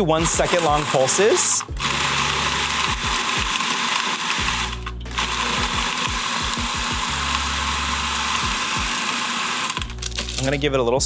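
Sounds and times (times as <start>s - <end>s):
food processor motor chopping: 0.0s - 10.5s.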